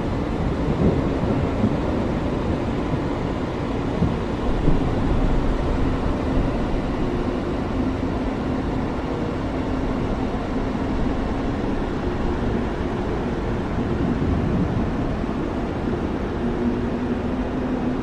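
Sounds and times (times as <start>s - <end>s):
rain rumbling: 0.3s - 18.0s.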